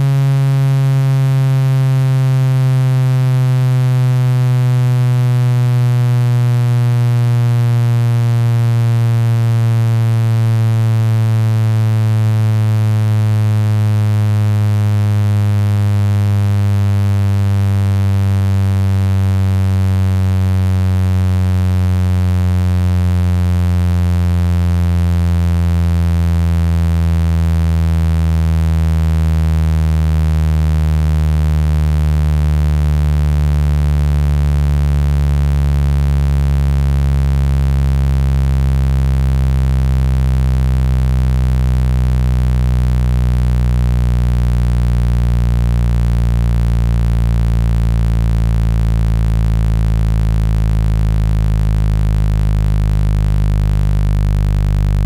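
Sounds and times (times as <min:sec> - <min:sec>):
low buzzing electronic tone: 0:00.0 - 0:55.0.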